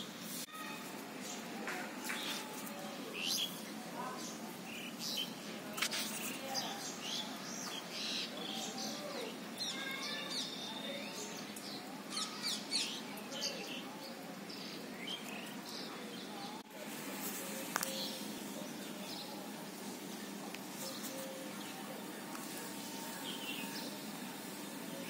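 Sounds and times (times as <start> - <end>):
small birds chirping: 1.2 - 16.6, 17.2 - 25.0.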